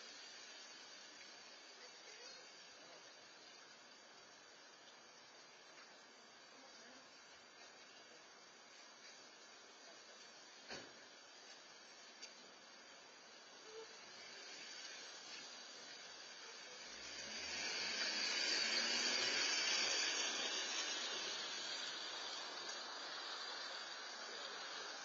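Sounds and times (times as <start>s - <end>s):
tyres hissing on wet road: 0.0s - 25.0s.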